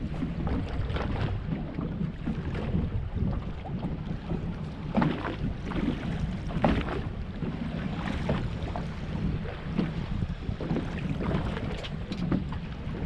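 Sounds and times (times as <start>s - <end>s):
strong wind on microphone: 0.0s - 13.0s
water slapping against boat hull: 0.0s - 13.0s.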